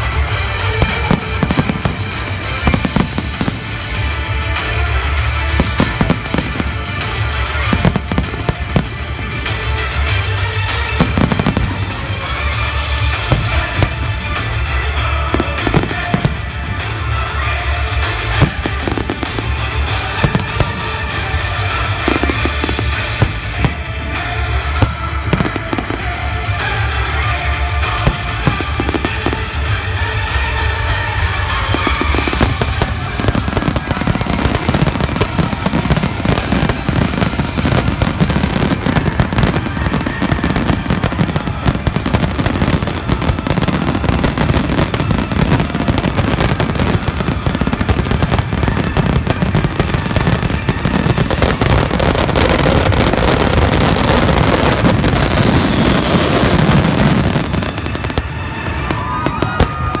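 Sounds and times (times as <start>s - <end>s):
crowd cheering and whistling: 0.0s - 60.0s
fireworks booming and crackling: 0.0s - 60.0s.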